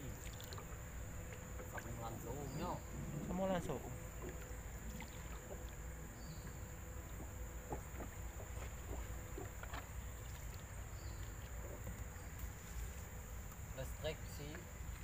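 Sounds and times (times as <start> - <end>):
insect drone: 0.0 - 15.0.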